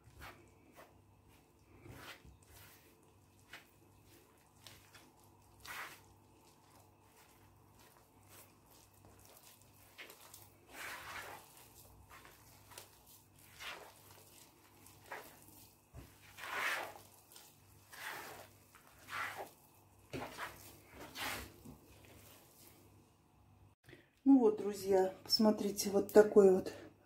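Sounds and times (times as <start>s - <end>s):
hands kneading sticky dough: 0.0s - 23.4s.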